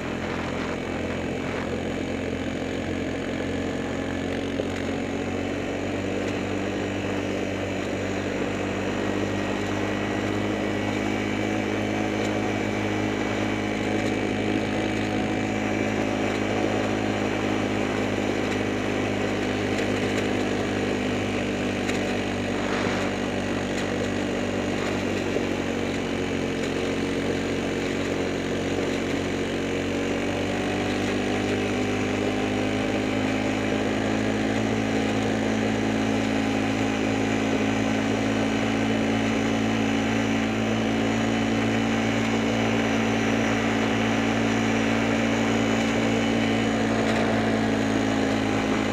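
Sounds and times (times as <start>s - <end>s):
small vehicle engine running: 0.0s - 48.9s.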